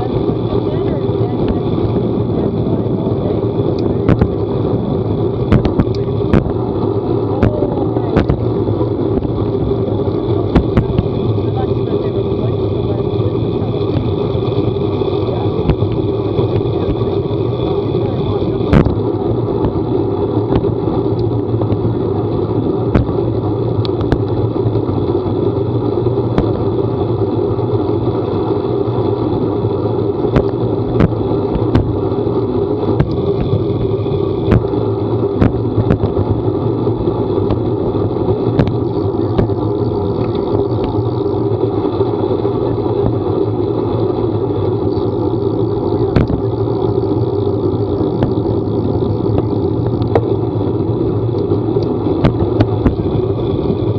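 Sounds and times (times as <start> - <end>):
vehicle running drone: 0.0 - 53.9.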